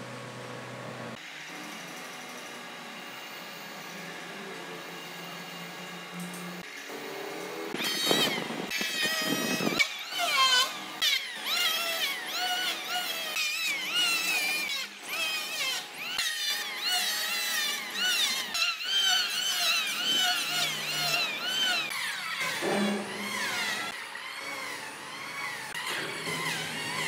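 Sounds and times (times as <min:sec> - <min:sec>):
electric planer whining on wood: 0:01.2 - 0:27.0.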